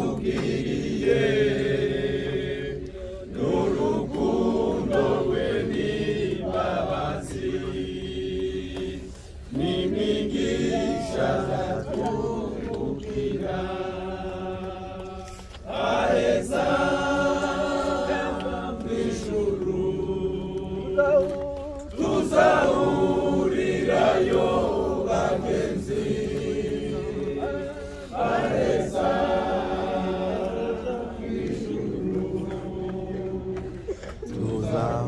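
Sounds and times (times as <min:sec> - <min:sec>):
crowd singing together: 0:00.0 - 0:35.0.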